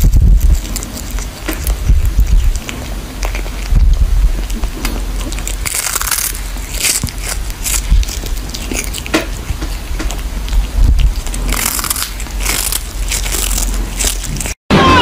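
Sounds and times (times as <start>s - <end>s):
kitten crunching on fish: 0.0s - 14.6s.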